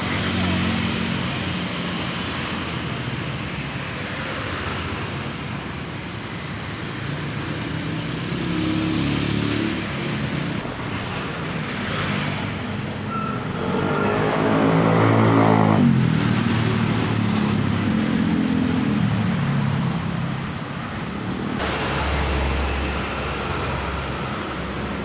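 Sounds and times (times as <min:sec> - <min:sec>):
road traffic passing: 0:00.0 - 0:25.0
large engine drone: 0:04.0 - 0:25.0.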